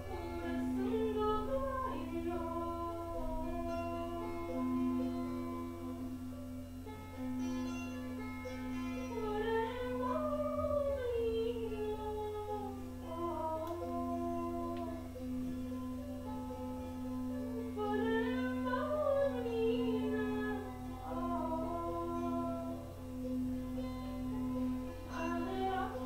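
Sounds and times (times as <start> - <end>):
person humming a melody: 0.0 - 6.2, 9.2 - 15.6, 17.3 - 26.0
low steady drone: 0.0 - 26.0.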